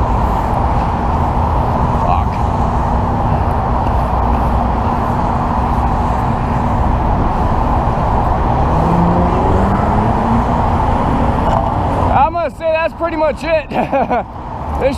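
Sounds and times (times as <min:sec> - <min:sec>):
freeway traffic roar: 0:00.0 - 0:14.9
vehicle engine hum: 0:00.0 - 0:14.9.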